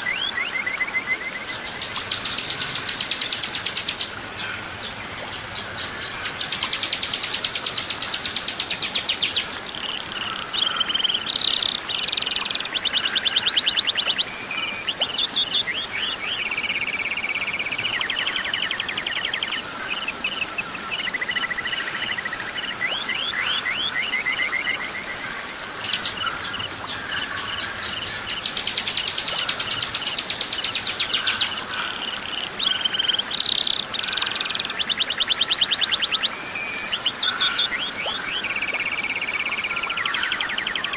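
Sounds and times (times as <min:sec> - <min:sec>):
songbird singing trills and chirps: 0:00.0 - 0:25.2, 0:25.8 - 0:40.9.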